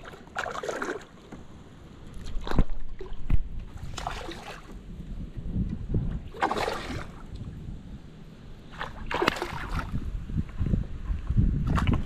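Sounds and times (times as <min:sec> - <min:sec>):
water sloshing at hull: 0:00.0 - 0:05.4, 0:06.0 - 0:07.6, 0:08.6 - 0:12.0
wind rumble on microphone: 0:01.9 - 0:12.0.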